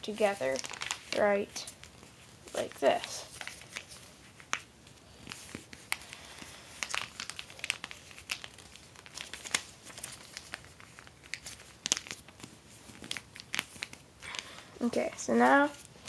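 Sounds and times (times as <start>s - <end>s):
paper crinkling and folding: 0.0s - 16.0s.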